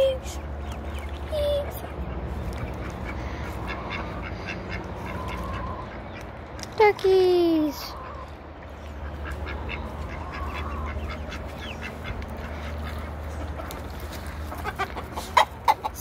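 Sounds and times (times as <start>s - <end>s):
ducks quacking: 0.0s - 6.4s, 7.7s - 16.0s.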